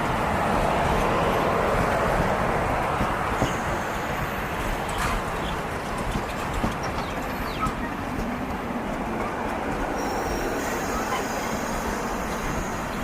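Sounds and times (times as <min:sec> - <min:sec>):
idling train rumble: 0:00.0 - 0:13.0.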